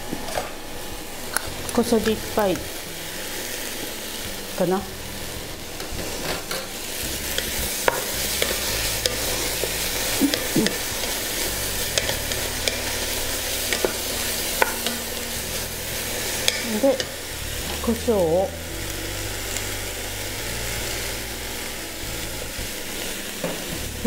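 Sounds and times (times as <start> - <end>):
vegetables sizzling in pot: 0.0 - 24.0.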